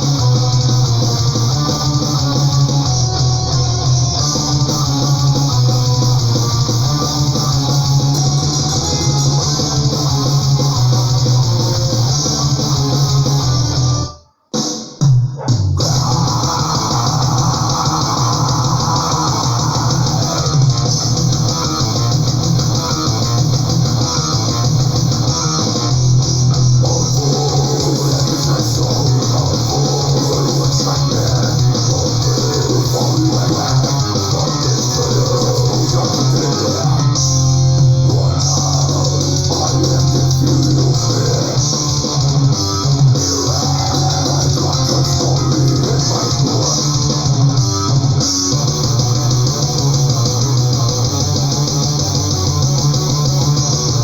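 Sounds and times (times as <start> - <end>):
bass guitar: 0.0 - 14.2, 15.0 - 54.0
electric guitars: 0.0 - 14.2, 15.8 - 54.0
drum kit playing: 0.0 - 54.0.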